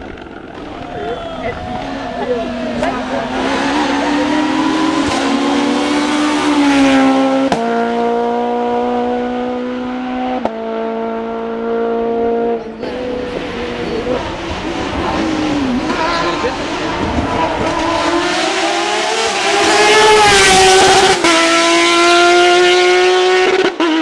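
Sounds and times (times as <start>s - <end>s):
racing car engine at high revs: 1.5s - 24.0s.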